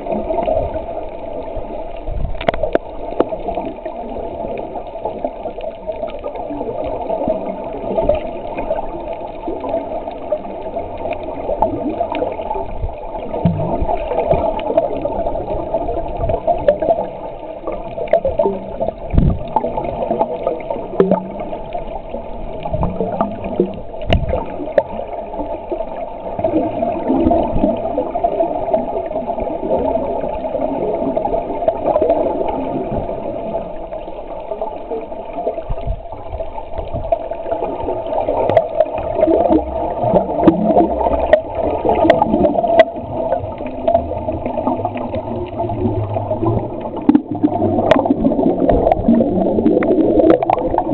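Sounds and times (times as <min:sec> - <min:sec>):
muffled underwater sloshing: 0:00.0 - 0:50.9.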